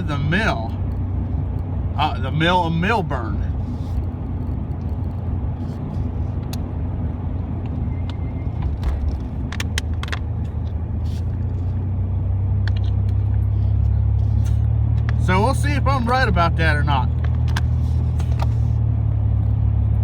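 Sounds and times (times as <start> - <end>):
truck engine and road drone: 0.0 - 20.0.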